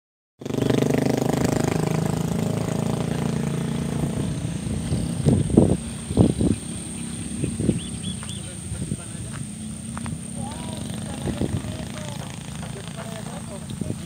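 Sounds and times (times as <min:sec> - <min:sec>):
small engine running: 0:00.4 - 0:14.0.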